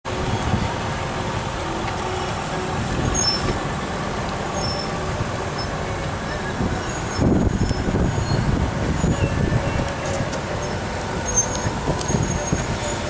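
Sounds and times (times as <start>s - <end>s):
vehicle engines and tyres rumbling: 0.0s - 13.0s
wind buffeting microphone: 0.1s - 13.0s.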